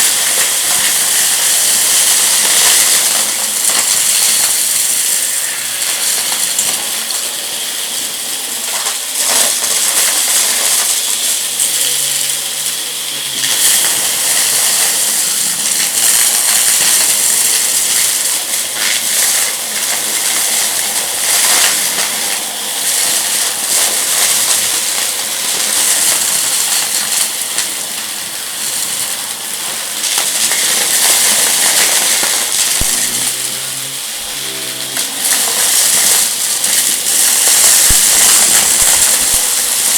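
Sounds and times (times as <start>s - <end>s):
debris rattling into vacuum: 0.0s - 12.5s, 13.1s - 39.9s
vacuum cleaner running: 0.0s - 39.9s.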